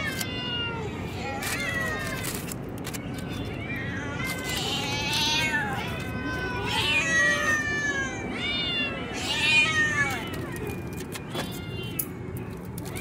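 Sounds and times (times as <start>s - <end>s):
cats meowing loudly: 0.0s - 13.0s.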